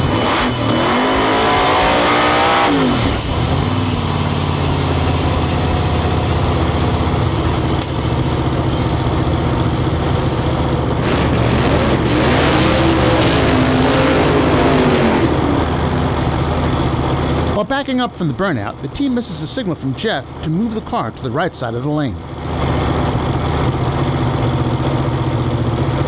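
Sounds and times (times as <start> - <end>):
loud car engine running: 0.0 - 26.0.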